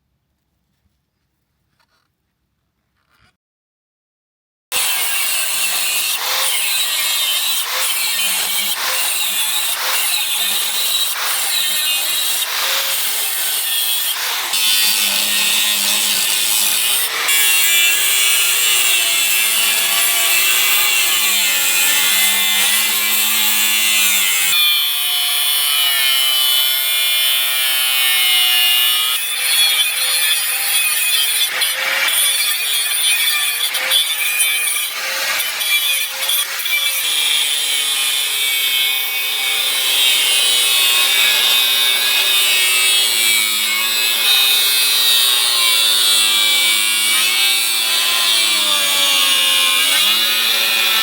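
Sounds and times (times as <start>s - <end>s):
power tool grinding steel: 4.7s - 51.0s.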